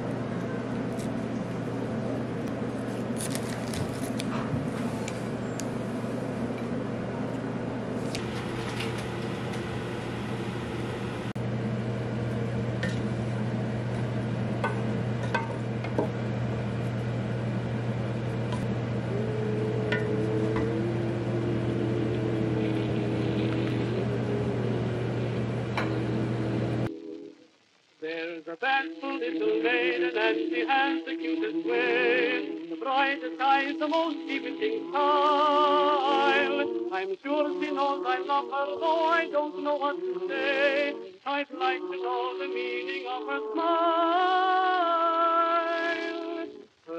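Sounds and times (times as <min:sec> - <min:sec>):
low electrical hum: 0:00.0 - 0:46.9.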